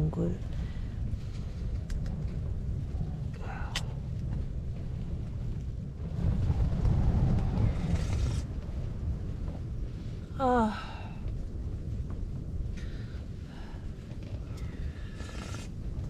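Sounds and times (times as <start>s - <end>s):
strong wind buffeting tent: 0.0s - 16.0s.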